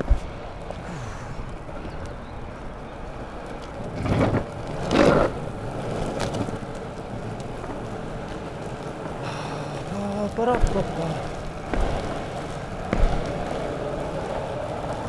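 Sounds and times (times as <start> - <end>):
longboard wheels rolling: 0.0 - 15.0.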